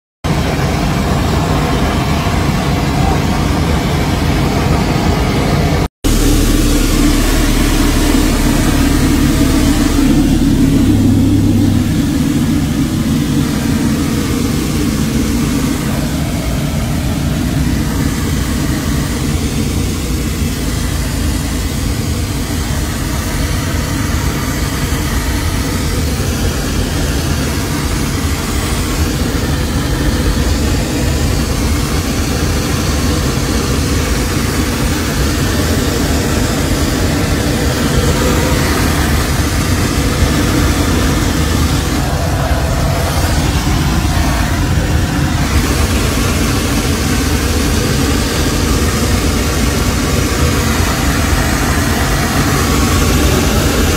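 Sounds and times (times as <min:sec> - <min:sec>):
airplane cabin engine roar: 0:00.2 - 0:53.9.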